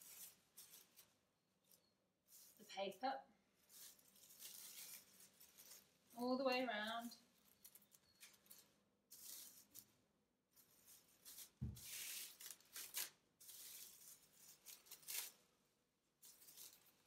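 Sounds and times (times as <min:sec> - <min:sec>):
cling film crinkling: 0:00.0 - 0:15.5, 0:16.2 - 0:17.0.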